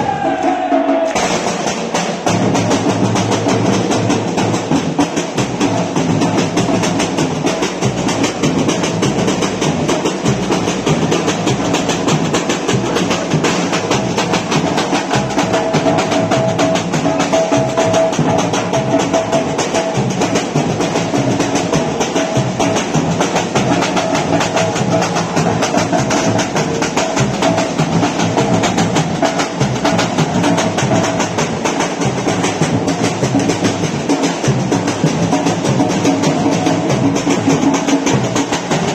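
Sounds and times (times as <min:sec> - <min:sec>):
samba percussion ensemble: 0:00.0 - 0:38.9
snare drums: 0:00.0 - 0:38.9
bass drums: 0:01.1 - 0:38.9.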